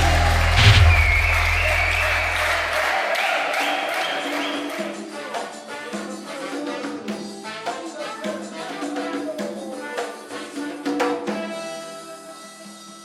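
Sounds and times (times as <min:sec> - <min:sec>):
cumbia band playing: 0:00.0 - 0:13.0.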